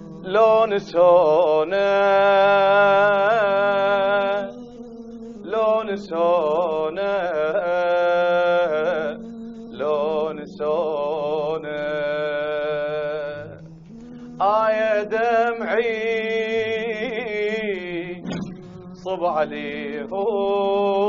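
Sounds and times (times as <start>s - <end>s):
solo voice singing a lament: 0.2s - 4.6s, 5.4s - 13.6s, 14.4s - 18.3s, 19.1s - 21.0s.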